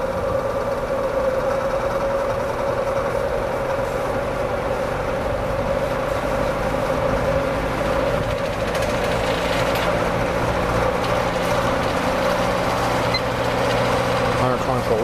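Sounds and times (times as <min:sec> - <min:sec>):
box fan whirring hum: 0:00.0 - 0:15.0.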